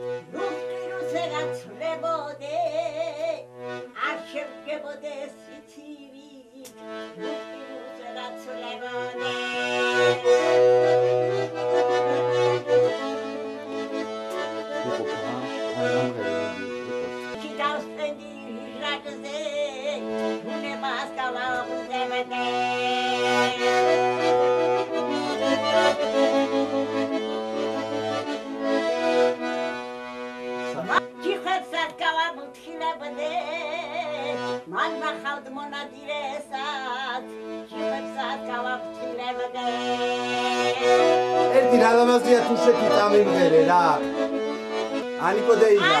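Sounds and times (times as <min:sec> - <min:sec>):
accordion playing slow tune: 0:00.0 - 0:46.0.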